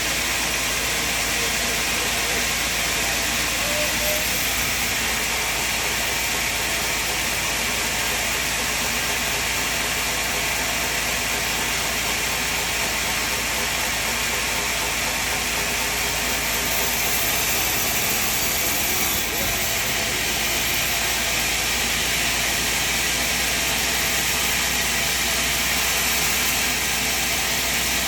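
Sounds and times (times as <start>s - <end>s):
sawmill machine running: 0.0s - 28.0s.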